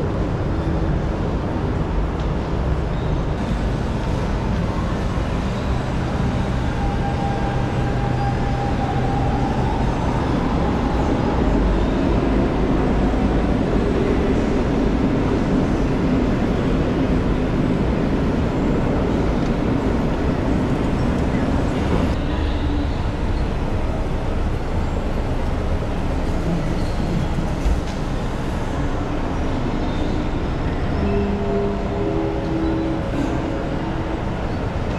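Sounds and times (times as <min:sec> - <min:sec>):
station concourse rumble and hiss: 0:00.0 - 0:34.9.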